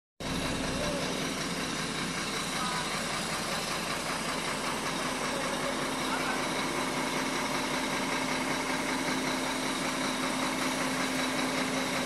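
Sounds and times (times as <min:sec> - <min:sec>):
diesel engine idling: 0:00.2 - 0:12.0.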